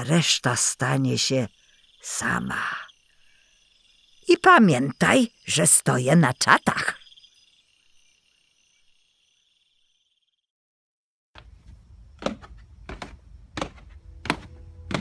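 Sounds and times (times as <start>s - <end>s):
faint crickets chirping: 0.0s - 10.5s, 11.4s - 14.9s.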